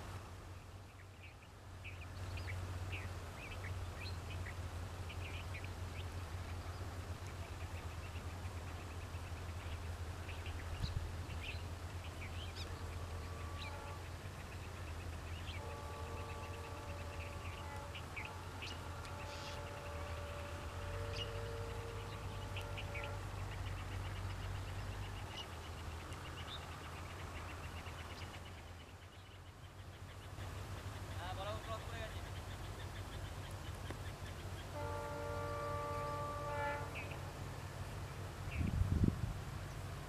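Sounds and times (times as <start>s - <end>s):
steady low hum: 0.0s - 40.0s
small birds chirping: 0.5s - 37.2s.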